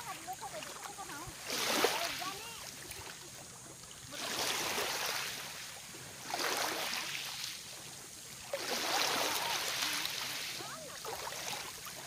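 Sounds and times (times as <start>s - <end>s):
small waves lapping on beach: 0.0s - 12.0s.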